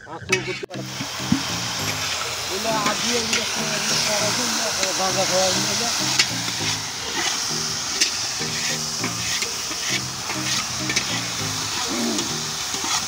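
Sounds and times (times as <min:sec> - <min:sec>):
metal spatula scraping a pan: 0:00.0 - 0:13.0
food sizzling in a pan: 0:00.6 - 0:13.0.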